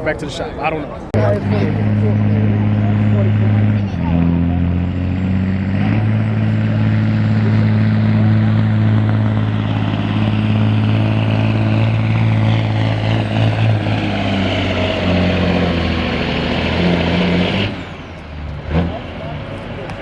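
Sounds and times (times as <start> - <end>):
truck diesel engine at high revs: 1.1 - 20.0.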